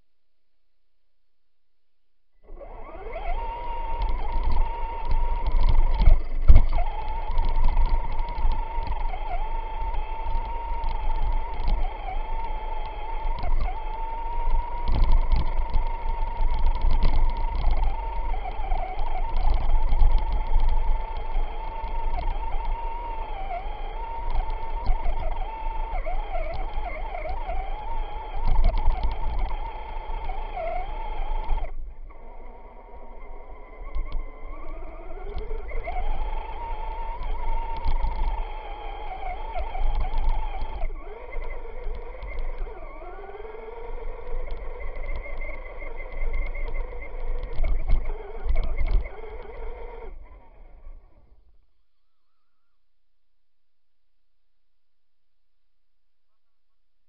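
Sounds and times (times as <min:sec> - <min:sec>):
electric motor and gears whining: 0:02.4 - 0:52.8.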